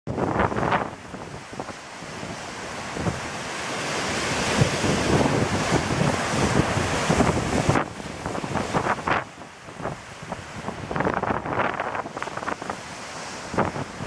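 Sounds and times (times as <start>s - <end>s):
strong wind buffeting microphone: 0.1s - 14.0s
waves breaking against shore: 0.1s - 14.0s.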